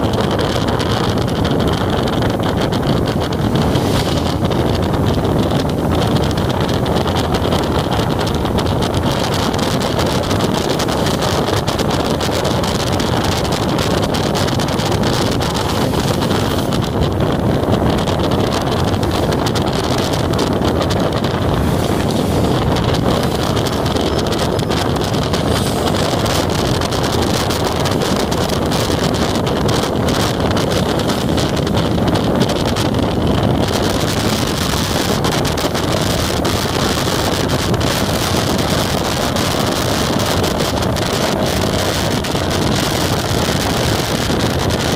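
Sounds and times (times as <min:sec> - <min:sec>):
motorcycle engine and road noise: 0:00.0 - 0:44.9
wind buffeting microphone: 0:00.0 - 0:44.9.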